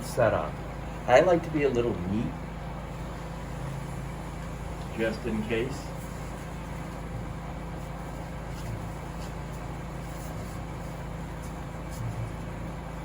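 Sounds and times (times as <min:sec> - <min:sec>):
suction pump hum: 0:00.0 - 0:13.0.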